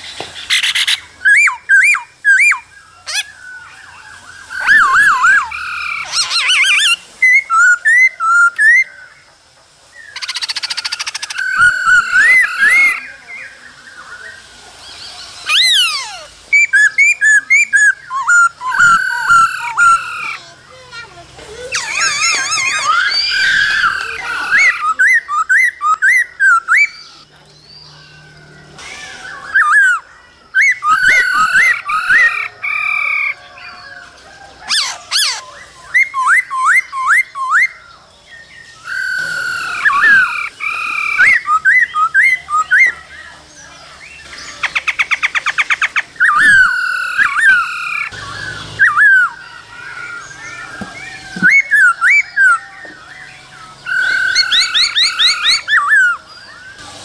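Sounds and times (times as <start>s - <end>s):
bird whistling song: 0.0s - 20.7s, 21.6s - 57.0s.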